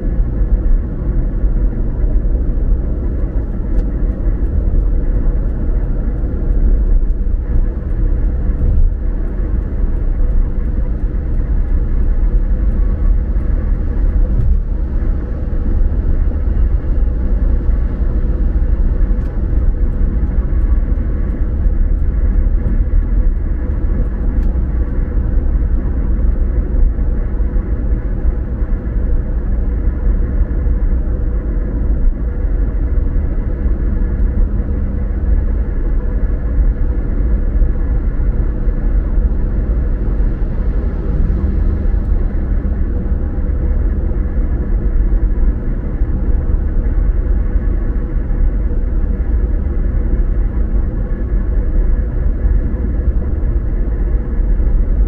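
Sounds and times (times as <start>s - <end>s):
car tyres and engine rumbling: 0.0s - 55.0s
faint steady hum: 0.0s - 55.0s.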